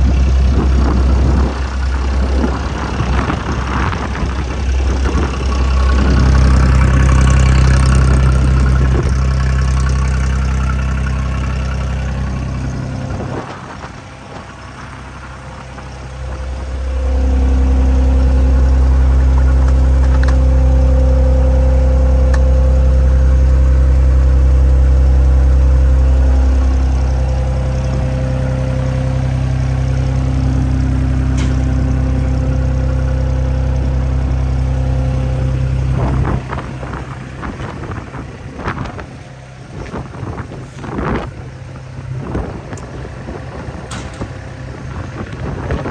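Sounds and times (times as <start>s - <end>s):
diesel engine running: 0.0s - 45.9s
high engine whine: 0.0s - 45.9s.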